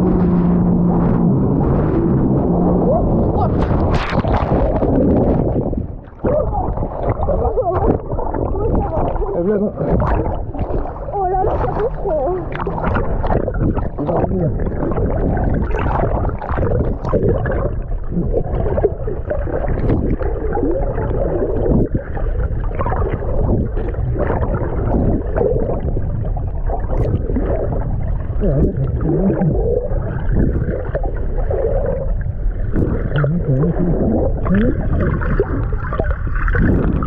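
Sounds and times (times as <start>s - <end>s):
muffled underwater churning: 0.0s - 37.0s.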